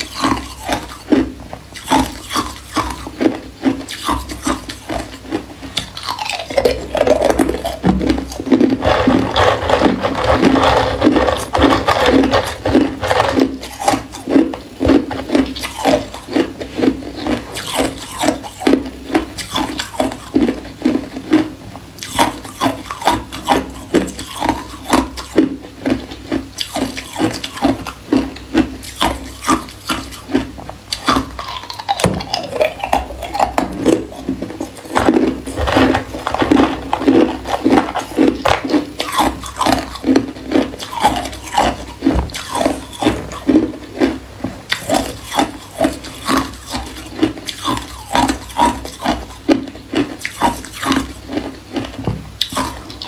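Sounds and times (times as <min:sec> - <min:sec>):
ice cubes crunched by teeth: 0:00.0 - 0:53.0.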